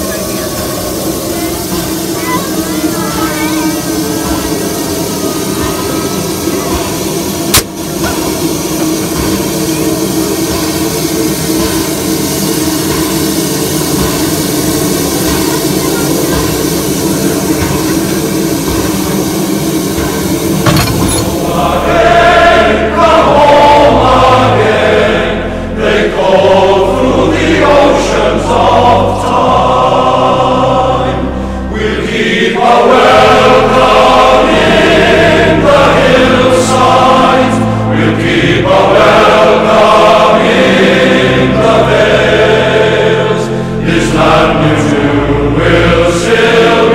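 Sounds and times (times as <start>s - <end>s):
choral music over deep bass: 0.0s - 46.9s
steam locomotive rushing noise: 0.0s - 46.9s.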